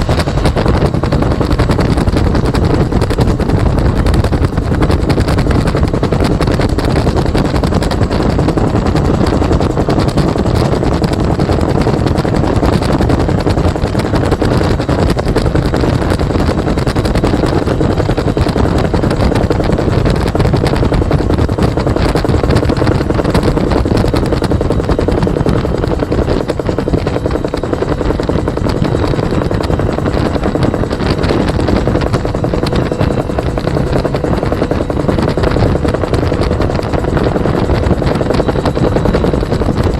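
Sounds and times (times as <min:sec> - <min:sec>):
helicopter roar: 0:00.0 - 0:39.9.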